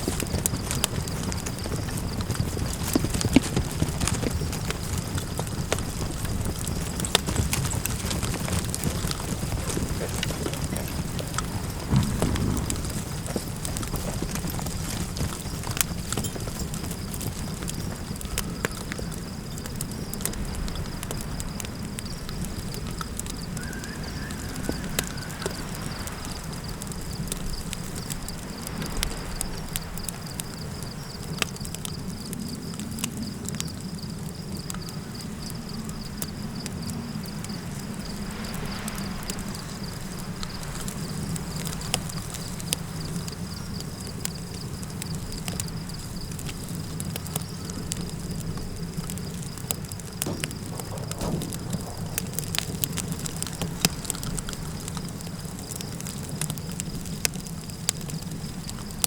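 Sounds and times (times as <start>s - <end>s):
campfire crackling: 0.0s - 59.0s
low rumble of wind: 0.0s - 59.0s.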